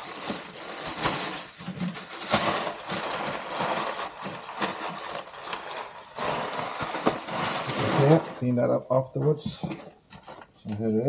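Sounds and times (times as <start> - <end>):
plastic and paper rustling: 0.0 - 8.6, 9.4 - 10.9.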